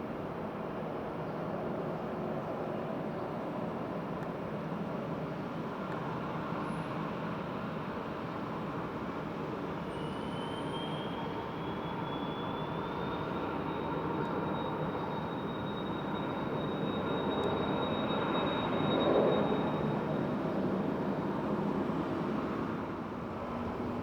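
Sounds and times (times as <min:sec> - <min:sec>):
jet engines rumbling with whine: 0:00.0 - 0:24.0.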